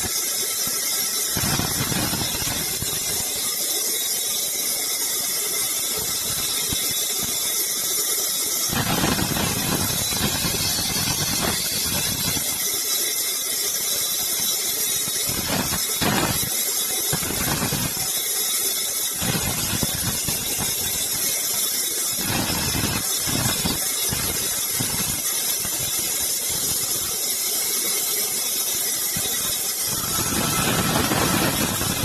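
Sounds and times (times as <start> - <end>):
saw cutting through wood: 0.0 - 32.0.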